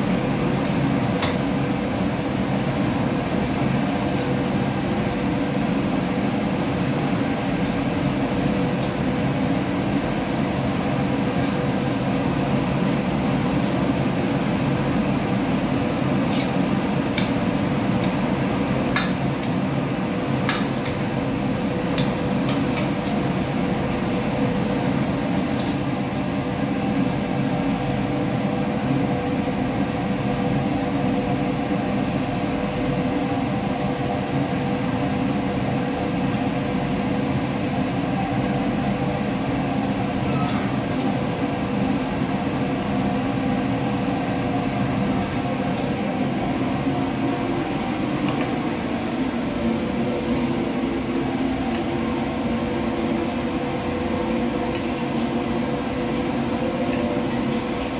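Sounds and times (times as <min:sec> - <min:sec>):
extractor fan drone: 0:00.0 - 0:40.2, 0:40.8 - 0:57.9.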